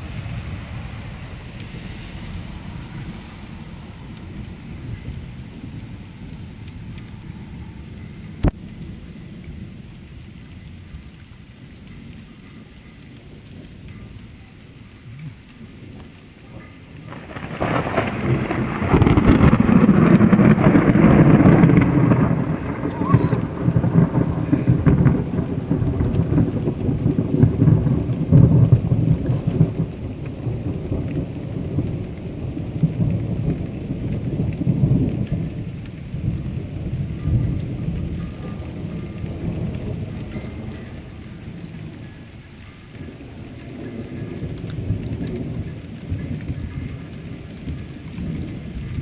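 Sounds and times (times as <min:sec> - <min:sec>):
steady rain: 0:00.0 - 0:49.0
thunder rumbling: 0:00.0 - 0:49.0.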